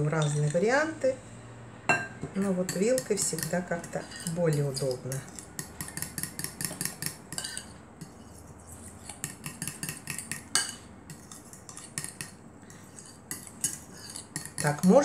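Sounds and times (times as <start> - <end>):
fork beating eggs in glass bowl: 2.4 - 15.0.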